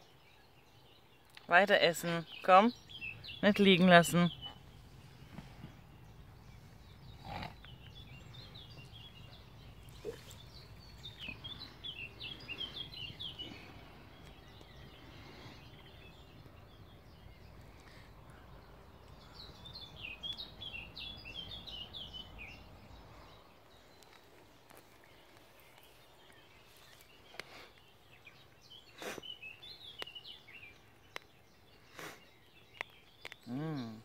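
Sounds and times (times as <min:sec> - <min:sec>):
songbird chirping: 0:00.0 - 0:34.0
faint low outdoor rumble: 0:00.2 - 0:28.8.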